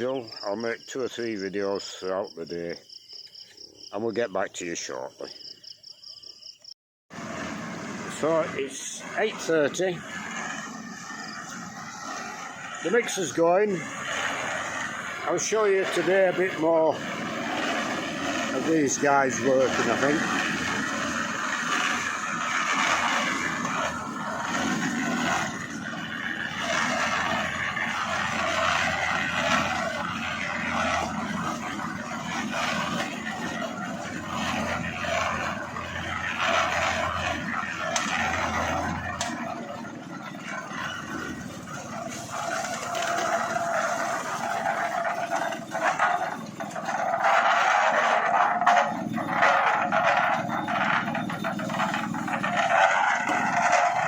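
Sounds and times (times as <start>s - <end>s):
concrete mixer running: 0.0s - 2.9s, 7.1s - 54.0s
scraping: 7.2s - 54.0s.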